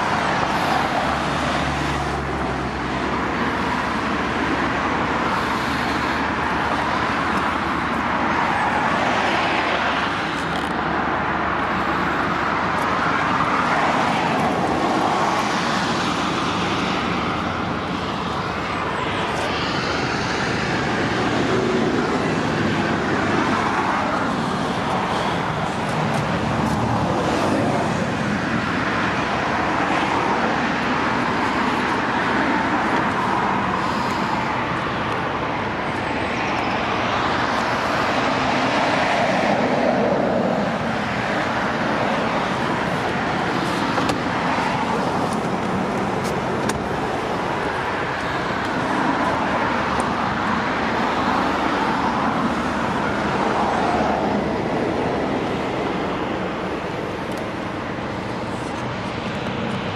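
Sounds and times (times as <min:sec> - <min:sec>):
road vehicle hum: 0:00.0 - 0:59.9.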